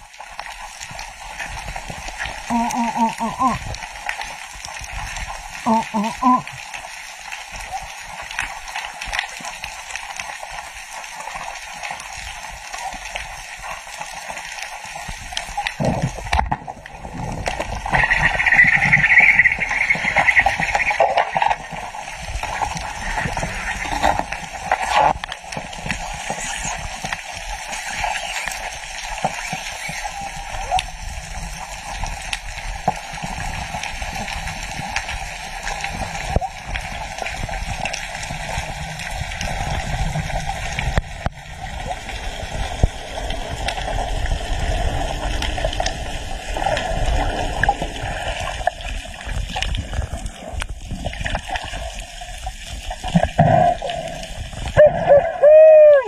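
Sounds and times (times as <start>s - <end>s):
fine crackle of clicks: 0.0s - 54.8s.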